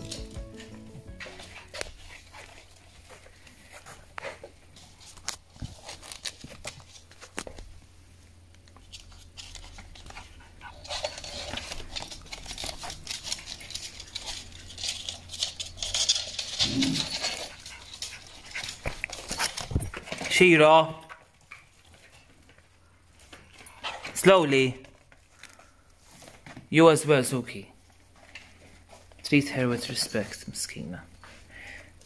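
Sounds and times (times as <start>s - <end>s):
animals scuffling and rustling: 0.0s - 24.2s, 27.8s - 32.0s.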